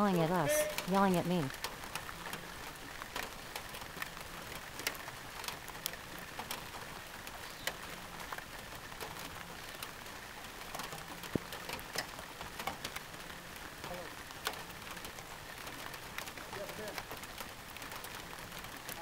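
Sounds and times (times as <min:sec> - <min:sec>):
rain hiss: 0:00.0 - 0:19.0
raindrops ticking: 0:00.0 - 0:19.0.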